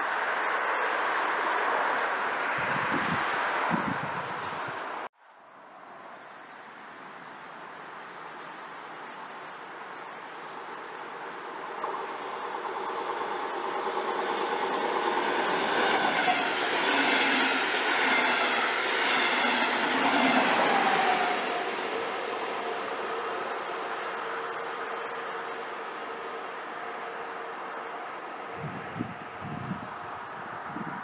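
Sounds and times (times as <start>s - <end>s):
train passing on tracks: 0.0s - 31.0s.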